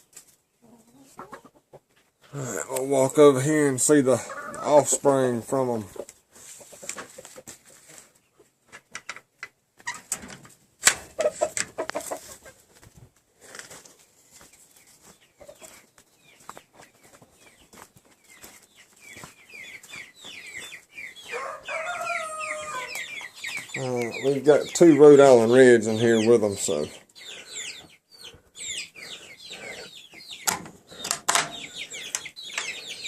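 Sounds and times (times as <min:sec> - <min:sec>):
chicks peeping: 0:00.4 - 0:10.0, 0:11.1 - 0:12.9, 0:14.1 - 0:33.0
chicken calls: 0:00.5 - 0:10.1, 0:11.0 - 0:13.0, 0:14.1 - 0:33.0.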